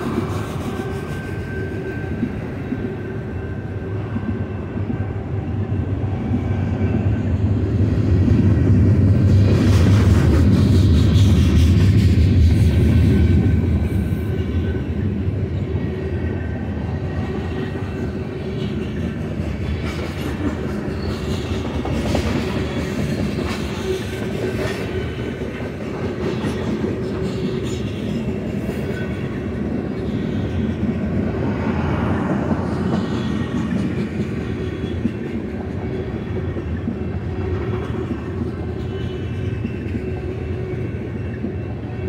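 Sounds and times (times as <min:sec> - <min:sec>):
steel wheels rumbling on rails: 0:00.0 - 0:42.0.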